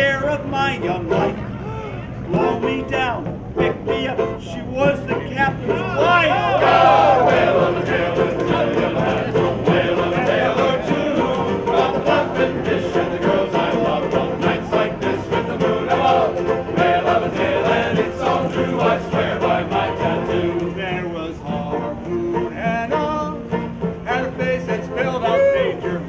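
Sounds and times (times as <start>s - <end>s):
group singing a sea shanty: 0.6s - 26.0s.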